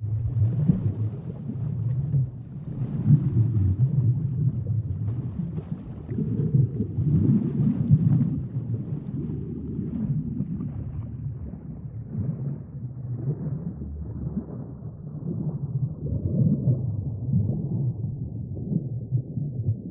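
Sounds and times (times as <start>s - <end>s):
water sloshing and churning: 0.0s - 17.8s.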